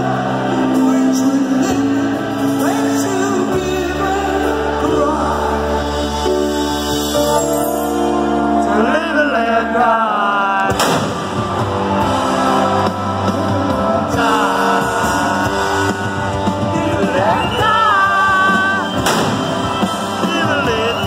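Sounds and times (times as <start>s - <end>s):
live rock band playing: 0.0s - 10.0s, 10.8s - 21.0s
person singing: 0.0s - 10.8s, 12.0s - 19.0s.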